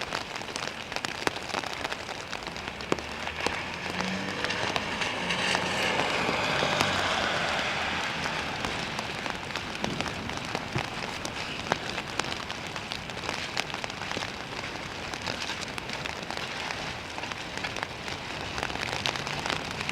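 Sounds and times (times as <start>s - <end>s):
raindrops ticking: 0.0s - 19.9s
steady rain falling: 0.0s - 19.9s.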